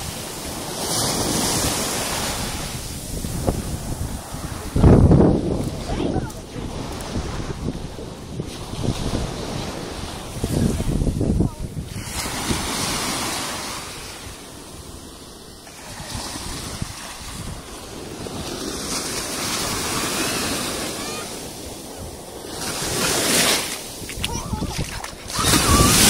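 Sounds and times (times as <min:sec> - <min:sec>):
small waves washing onto sand: 0:00.0 - 0:26.0.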